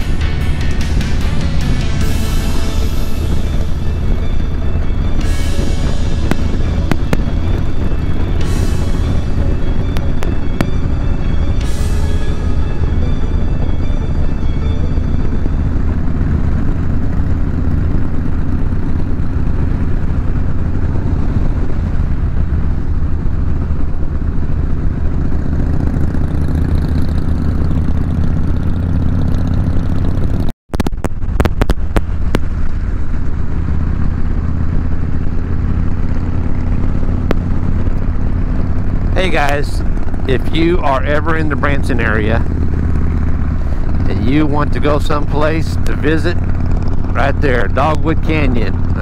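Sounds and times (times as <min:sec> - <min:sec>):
motorcycle engine running: 0:00.0 - 0:49.0
road noise: 0:00.0 - 0:49.0.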